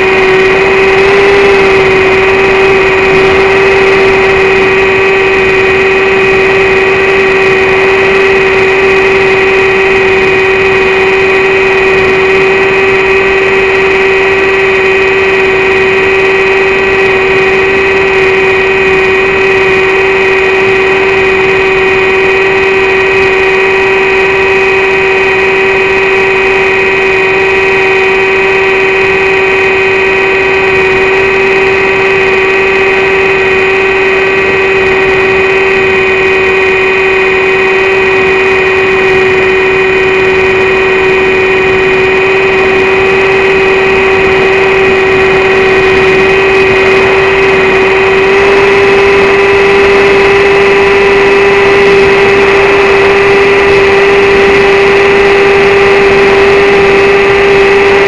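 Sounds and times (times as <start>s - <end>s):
electric motor and propeller whine: 0.0s - 58.0s
rushing air noise: 0.0s - 58.0s.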